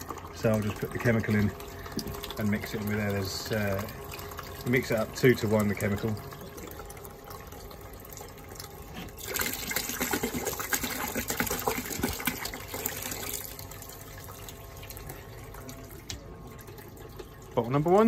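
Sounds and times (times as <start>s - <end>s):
liquid pouring into bucket: 0.0s - 18.0s
water streaming into bucket: 0.0s - 18.0s.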